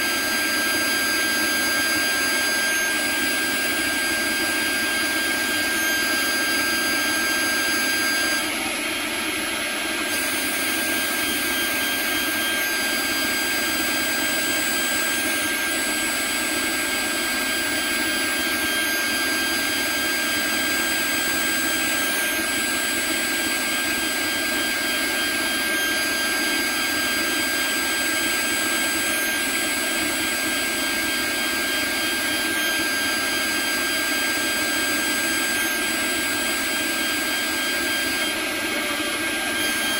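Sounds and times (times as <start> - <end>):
end mill cutting plastic: 0.0 - 39.9
router spindle whine: 0.0 - 39.9.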